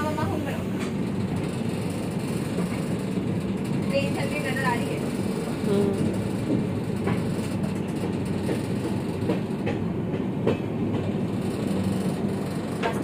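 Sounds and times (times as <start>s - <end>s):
train wheels rumbling on rails: 0.0s - 13.0s
wheels clacking over rail joints: 0.0s - 13.0s.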